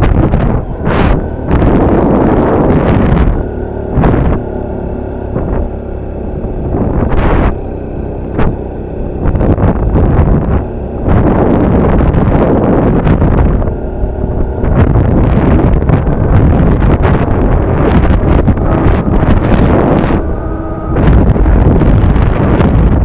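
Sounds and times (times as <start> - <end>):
vehicle engine climbing: 0.0 - 23.0
wind rushing over microphone: 0.0 - 23.0.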